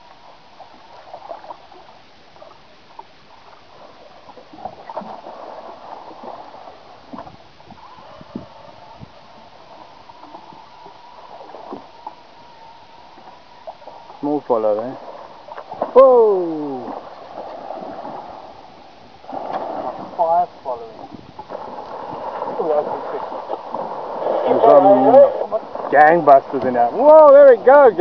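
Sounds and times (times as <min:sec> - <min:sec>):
water lapping against boat hull: 0:00.0 - 0:28.0.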